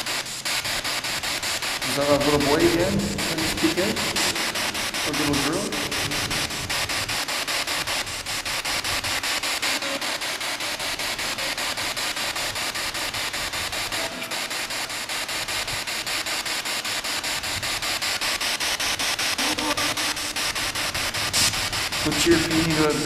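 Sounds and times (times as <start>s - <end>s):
pulsing radio static: 0.0s - 23.0s.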